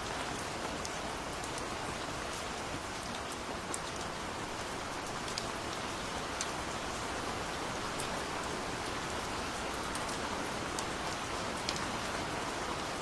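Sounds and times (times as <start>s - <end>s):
gentle rain falling: 0.0s - 13.0s.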